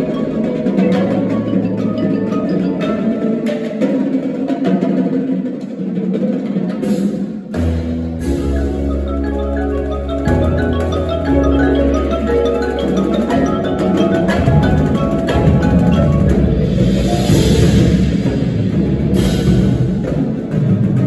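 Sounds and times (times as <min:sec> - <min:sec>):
marimbas and vibraphones playing: 0:00.0 - 0:05.5, 0:06.8 - 0:21.0
low percussion: 0:00.0 - 0:21.0.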